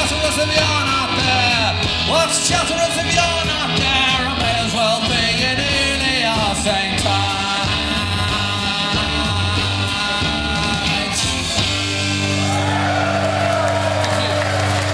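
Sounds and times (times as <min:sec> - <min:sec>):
drums on cymbals: 0:00.0 - 0:14.9
live rock band playing: 0:00.0 - 0:14.9.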